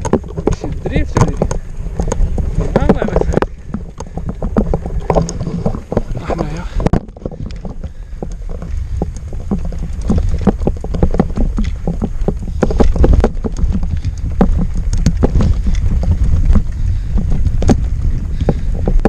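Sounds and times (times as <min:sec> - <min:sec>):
bicycle rattling over dirt track: 0:00.0 - 0:19.0
wind rumbling on microphone: 0:00.0 - 0:19.0.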